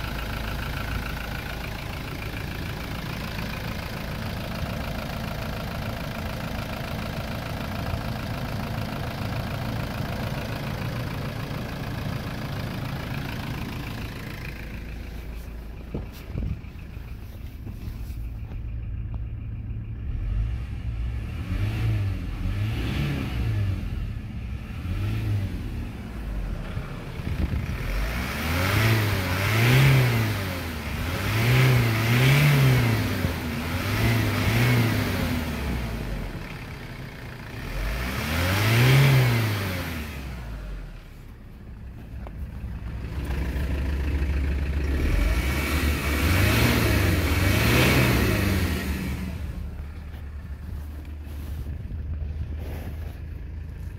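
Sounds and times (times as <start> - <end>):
diesel engine idling and revving: 0.0 - 53.9.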